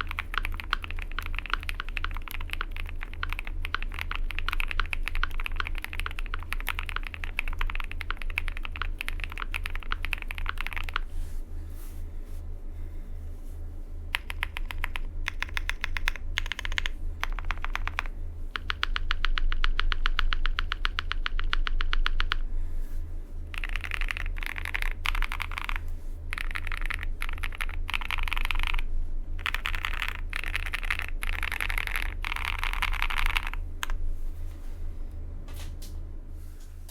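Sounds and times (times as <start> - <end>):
mechanical keyboard typing: 0.0 - 11.1, 14.1 - 22.4, 23.5 - 34.0.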